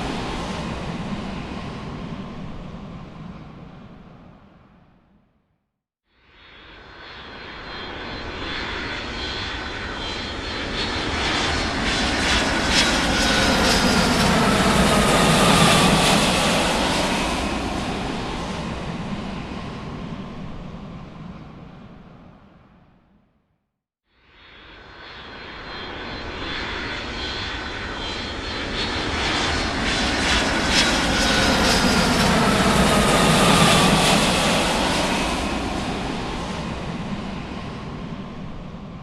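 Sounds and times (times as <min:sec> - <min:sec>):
large aircraft flying overhead: 0:00.0 - 0:05.1, 0:06.2 - 0:23.0, 0:24.2 - 0:39.0.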